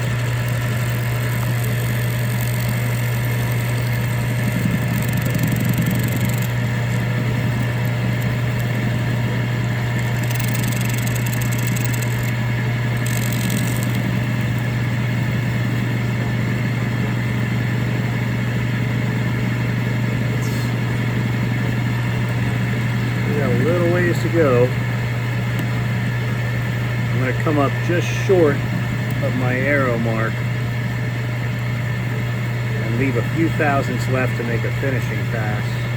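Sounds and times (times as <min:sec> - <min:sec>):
drill press motor hum: 0:00.0 - 0:35.9.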